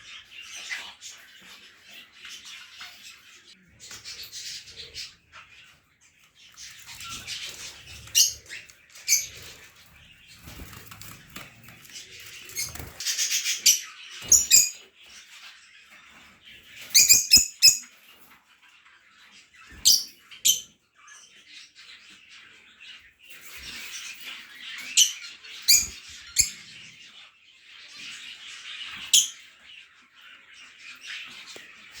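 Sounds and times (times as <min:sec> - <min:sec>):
pet birds chattering: 0:00.0 - 0:32.0.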